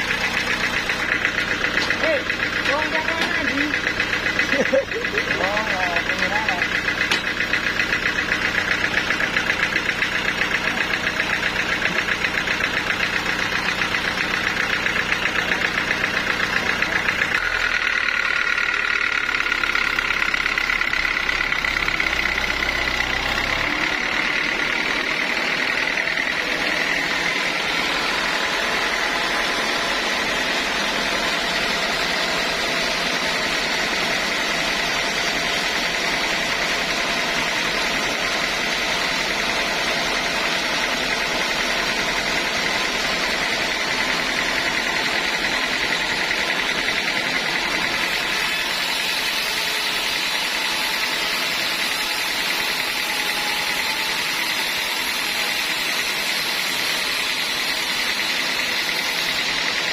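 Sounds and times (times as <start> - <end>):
high saw whine: 0.0 - 59.9
saw machinery pulsing hum: 0.0 - 59.9.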